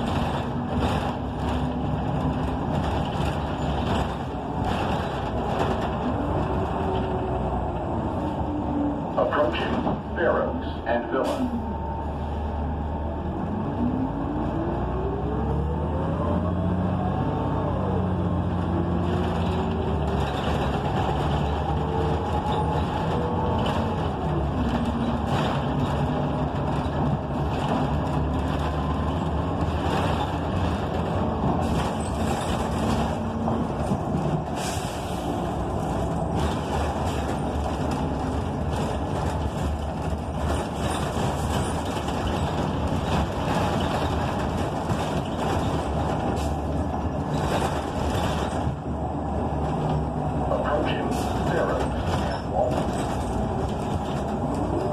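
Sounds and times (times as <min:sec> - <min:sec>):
bus engine running: 0:00.0 - 0:54.9
road noise: 0:00.0 - 0:54.9.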